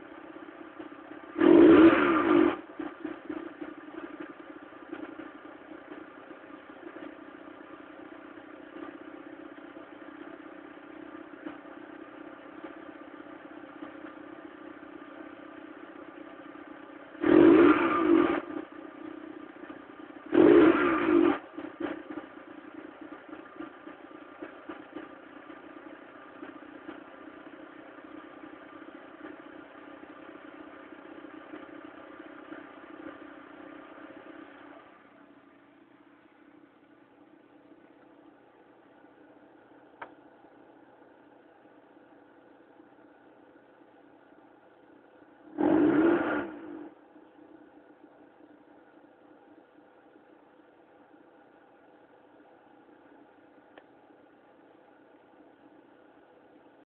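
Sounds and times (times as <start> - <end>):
car engine idling and revving: 0.0 - 56.9.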